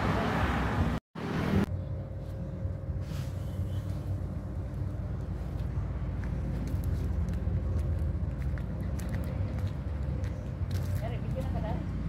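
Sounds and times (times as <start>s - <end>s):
low outdoor rumble: 0.8s - 12.0s.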